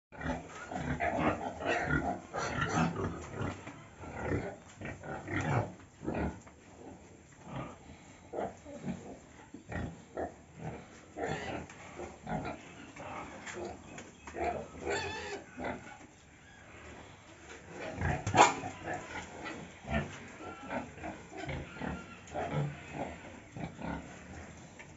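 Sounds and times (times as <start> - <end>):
pig grunting: 0.2 - 16.0, 17.6 - 24.8.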